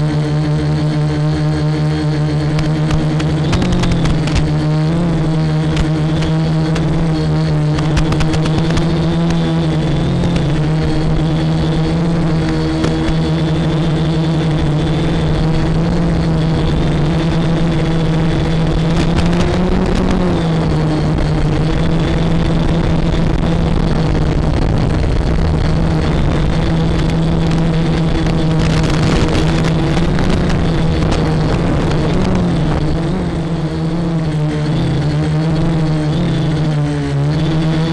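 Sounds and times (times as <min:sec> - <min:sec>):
quadcopter motors buzzing: 0:00.0 - 0:37.9.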